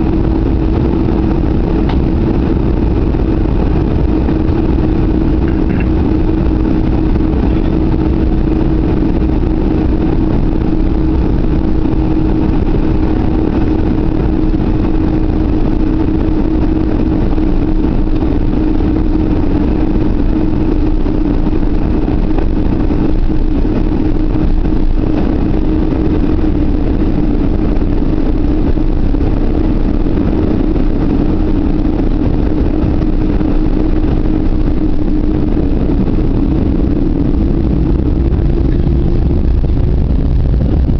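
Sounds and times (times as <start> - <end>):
jet engines and cabin hum: 0.0 - 40.9.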